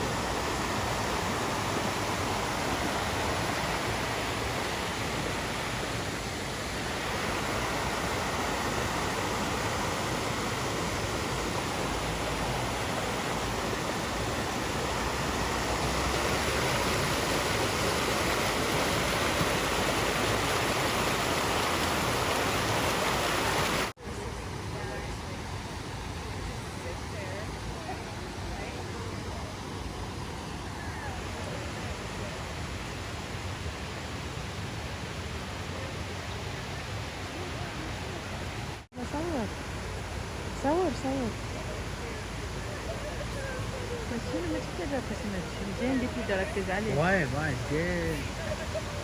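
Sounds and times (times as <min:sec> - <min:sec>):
mountain stream rushing: 0:00.0 - 0:49.0.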